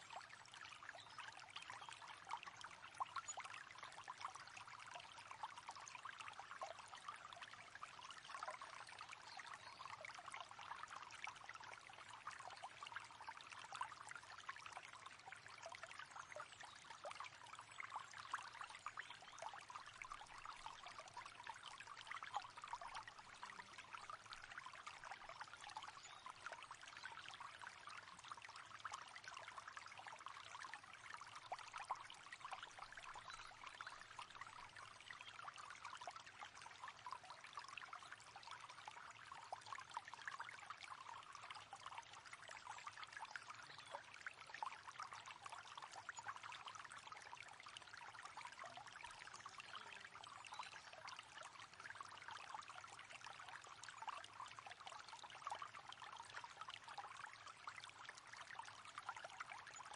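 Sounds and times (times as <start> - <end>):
river water babbling: 0.1 - 59.8.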